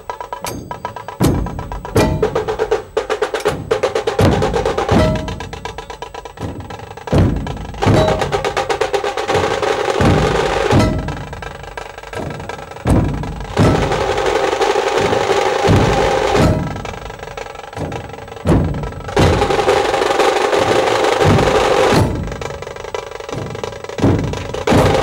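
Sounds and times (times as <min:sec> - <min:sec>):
deep booming drum strokes: 0:00.0 - 0:25.0
drum ensemble playing: 0:00.0 - 0:25.0
rapid drum rolls: 0:00.0 - 0:25.0.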